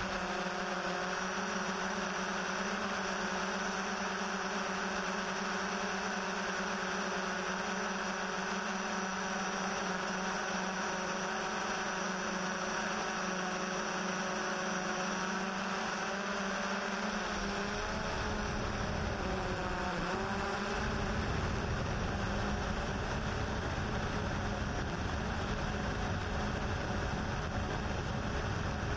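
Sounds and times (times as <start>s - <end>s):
drone rotors whining: 0.0s - 28.9s.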